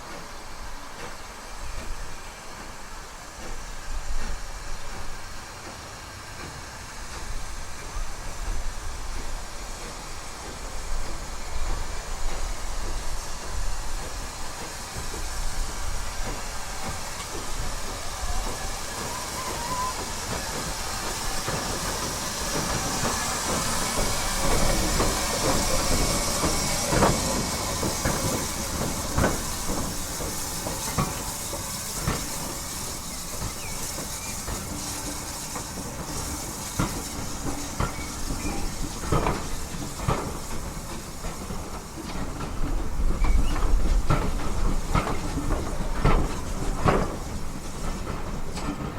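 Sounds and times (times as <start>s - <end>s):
train hiss: 0.0s - 48.9s
wheels clicking over rail joints: 7.2s - 48.9s.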